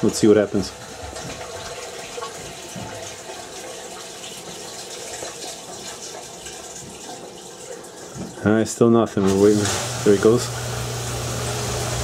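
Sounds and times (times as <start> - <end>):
water rushing through drain pipes: 0.0 - 12.0.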